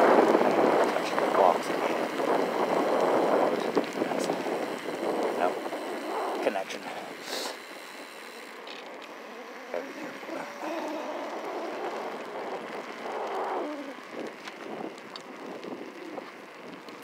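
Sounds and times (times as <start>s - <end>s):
bike tyres rolling: 0.0s - 17.0s.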